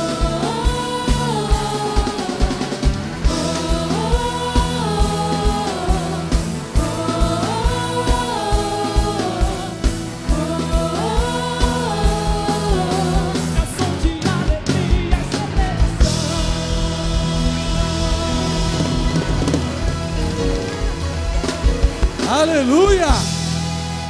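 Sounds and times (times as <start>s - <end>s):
sliding melodic lead line: 0.0s - 24.0s
worship band playing: 0.0s - 24.0s.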